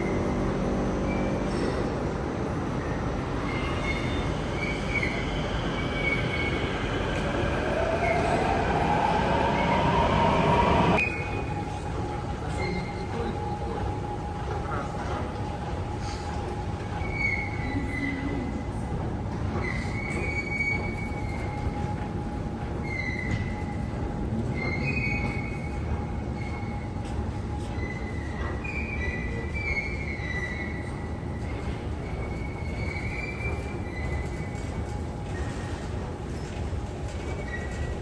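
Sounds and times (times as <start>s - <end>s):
train rumbling: 0.0s - 38.0s
wheels squealing on rails: 2.8s - 18.6s, 19.5s - 38.0s.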